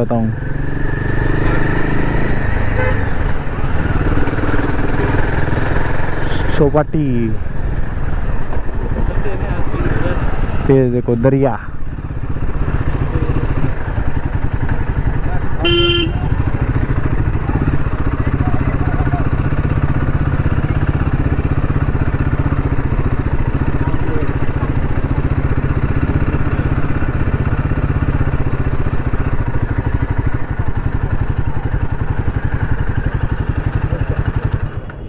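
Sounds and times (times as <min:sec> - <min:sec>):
motorcycle engine running steadily: 0:00.0 - 0:35.0.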